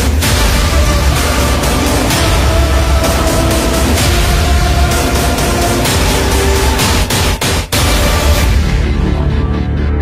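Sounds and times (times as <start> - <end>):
dramatic soundtrack music: 0.0 - 10.0.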